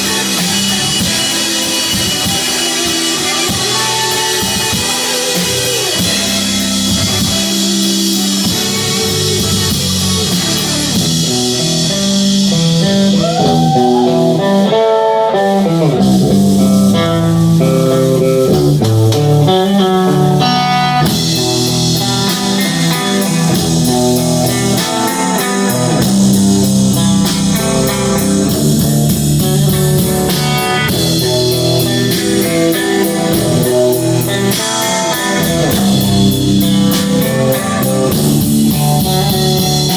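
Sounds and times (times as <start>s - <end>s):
bass guitar: 0.0s - 39.9s
drum kit: 0.0s - 39.9s
electric guitar: 0.0s - 39.9s
guitar line bending in pitch: 0.0s - 39.9s.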